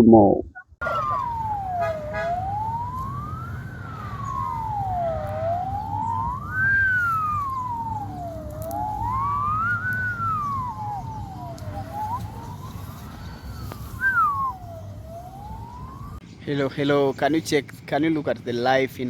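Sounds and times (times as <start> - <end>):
wailing siren: 0.8 - 16.2
steady low rumble: 0.8 - 16.4.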